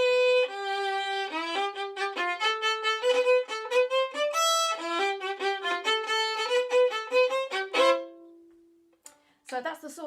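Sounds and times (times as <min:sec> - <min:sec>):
solo violin folk fiddle tune: 0:00.0 - 0:08.4.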